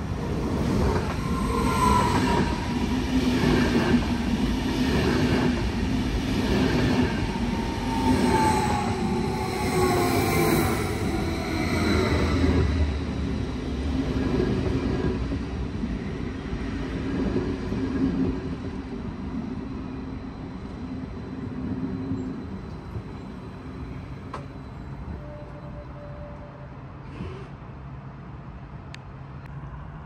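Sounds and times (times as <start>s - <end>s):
electric train rolling past: 0.0s - 27.1s.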